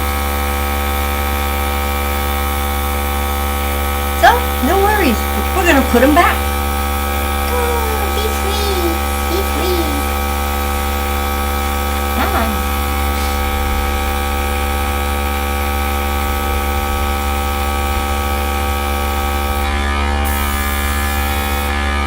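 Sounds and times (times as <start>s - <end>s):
electric air gun humming and hissing: 0.0s - 5.7s, 6.4s - 22.0s.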